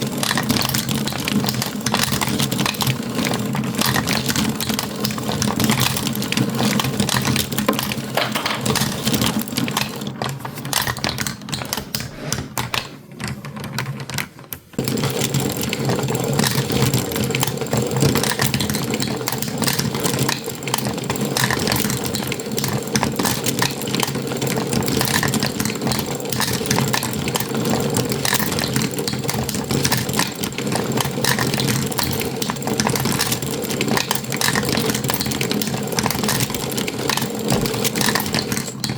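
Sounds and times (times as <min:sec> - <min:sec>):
marbles clicking along a track: 0:00.0 - 0:12.0, 0:12.7 - 0:38.9.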